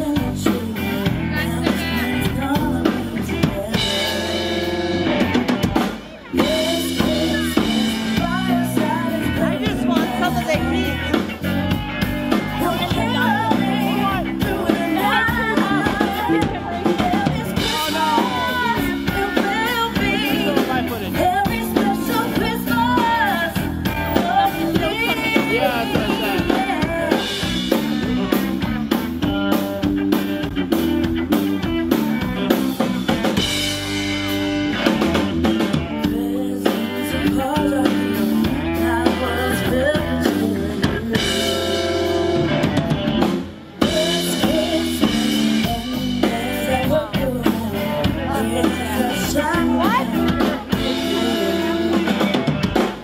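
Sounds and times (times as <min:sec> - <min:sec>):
person singing: 0:00.0 - 0:32.6, 0:34.8 - 0:53.0
backing instruments: 0:00.0 - 0:53.0
drum kit beat: 0:00.0 - 0:53.0.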